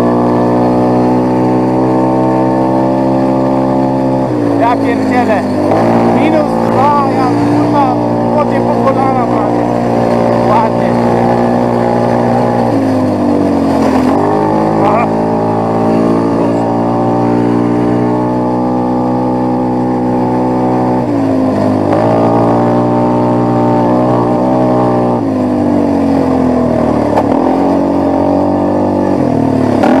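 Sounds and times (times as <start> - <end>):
quad engine running: 0.0 - 30.0.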